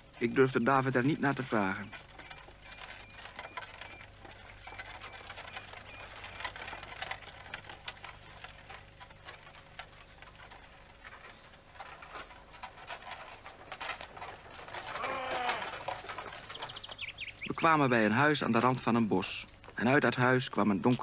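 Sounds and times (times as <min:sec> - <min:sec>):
horse hooves clopping on pavement: 0:00.0 - 0:21.0
wooden cart rattling: 0:00.0 - 0:21.0.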